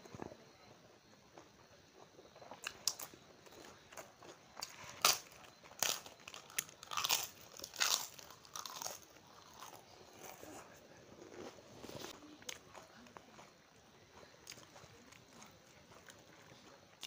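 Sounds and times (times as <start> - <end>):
soft chewing: 0.0 - 17.0
crunching crisp food: 1.3 - 17.0.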